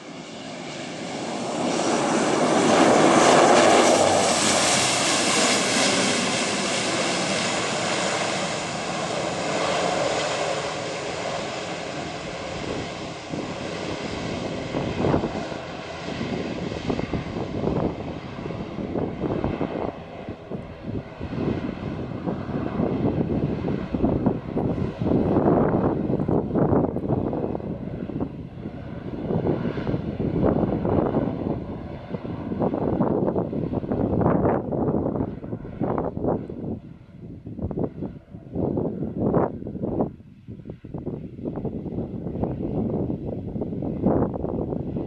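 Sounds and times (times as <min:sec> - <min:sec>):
turboprop engines and propellers: 0:00.0 - 0:45.0.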